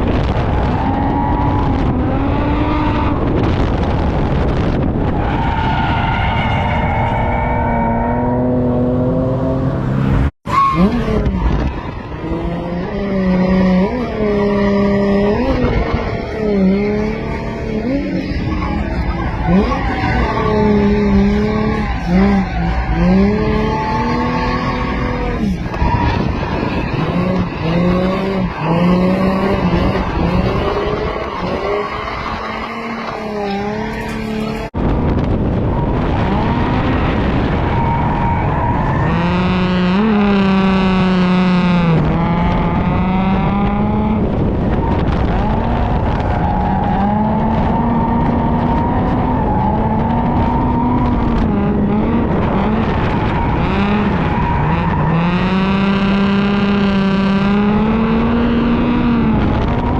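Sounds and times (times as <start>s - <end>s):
car engine revving: 0.0s - 59.9s
tyres skidding: 0.0s - 59.9s.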